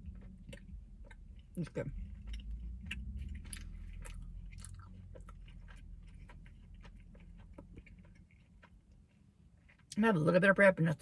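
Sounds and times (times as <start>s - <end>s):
chewing bread: 0.0s - 10.4s
low steady hum: 0.0s - 11.0s.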